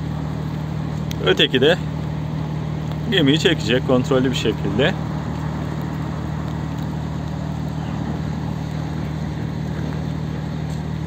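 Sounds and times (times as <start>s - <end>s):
diesel engines humming: 0.0s - 11.0s.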